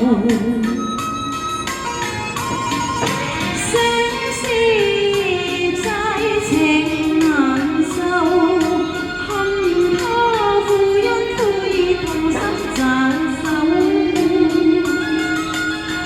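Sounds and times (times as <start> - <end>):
woman singing with vibrato: 0.0 - 1.3, 3.4 - 16.0
backing music: 0.0 - 16.0.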